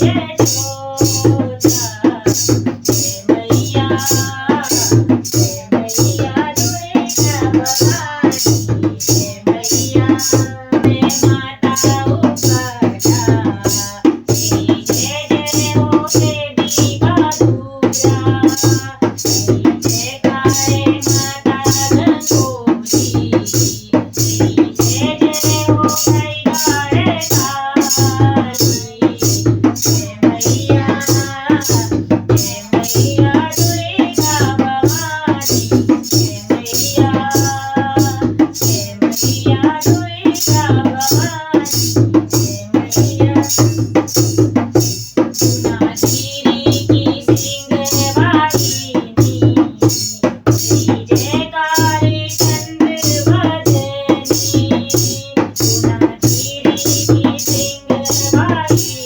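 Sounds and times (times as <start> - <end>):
shaker and drum beat: 0.0 - 59.0
song with person singing: 0.0 - 59.0.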